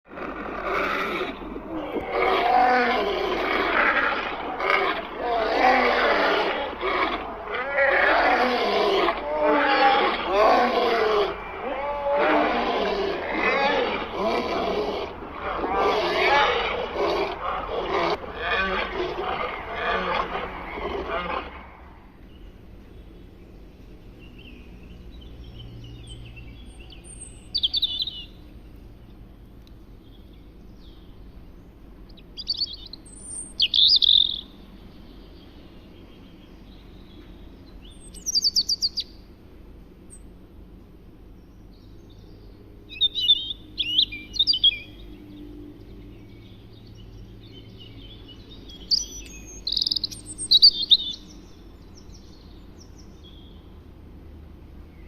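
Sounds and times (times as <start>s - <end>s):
low steady background noise: 0.1s - 55.0s
songbird singing: 0.1s - 55.0s.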